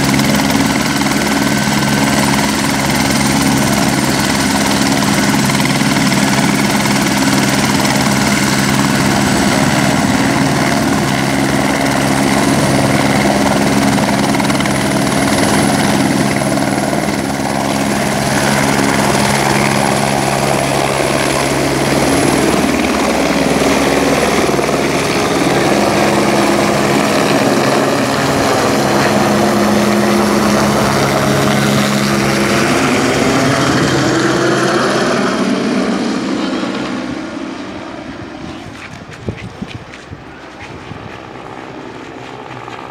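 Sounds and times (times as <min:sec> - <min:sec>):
helicopter rotor beat: 0:00.0 - 0:42.9
turbine engine whine: 0:00.0 - 0:42.9.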